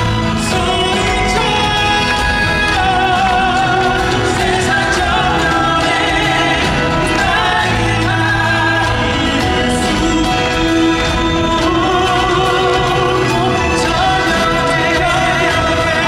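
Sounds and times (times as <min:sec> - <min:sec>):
person singing with vibrato: 0:00.0 - 0:16.0
sustained instrumental chords: 0:00.0 - 0:16.0.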